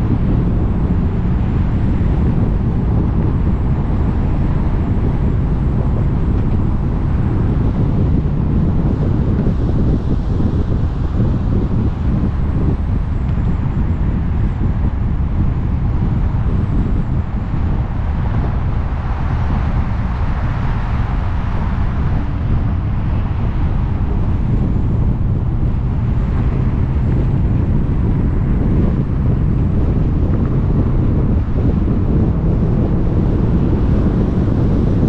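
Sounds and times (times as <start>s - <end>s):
road and tyre rumble: 0.0s - 35.0s
wind buffeting a microphone: 0.0s - 35.0s.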